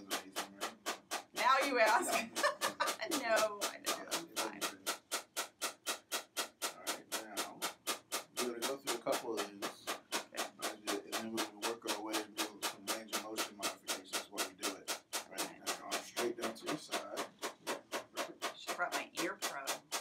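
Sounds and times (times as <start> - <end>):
rapid even clicking pulses: 0.0 - 20.0.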